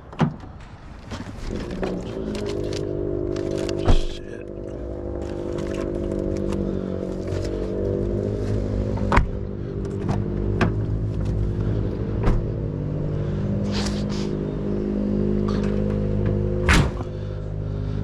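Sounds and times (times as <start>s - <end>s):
vehicle engine running: 0.6s - 18.0s.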